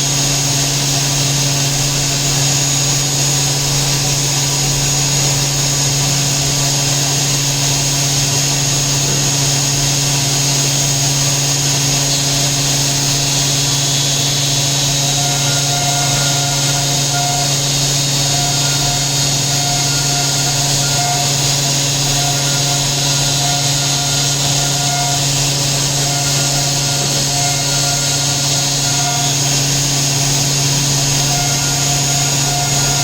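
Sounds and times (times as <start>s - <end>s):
machining center humming: 0.0s - 33.0s
thin high whine: 0.0s - 33.0s.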